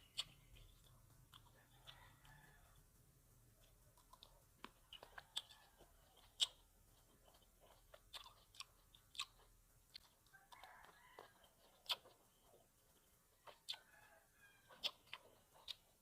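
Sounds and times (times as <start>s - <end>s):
chewing grapes wet clicks: 0.0s - 16.0s.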